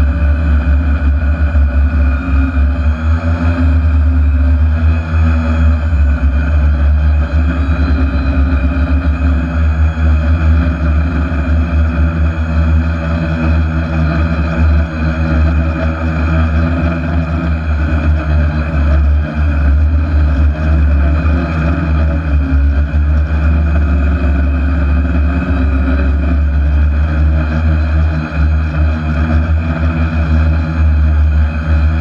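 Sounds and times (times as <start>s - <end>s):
drone motors humming: 0.0s - 32.0s.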